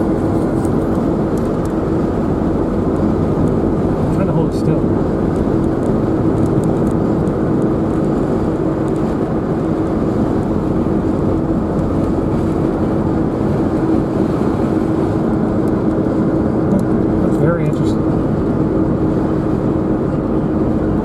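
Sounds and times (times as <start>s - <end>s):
road and wind noise: 0.0s - 21.0s
vehicle engine hum: 0.0s - 21.0s.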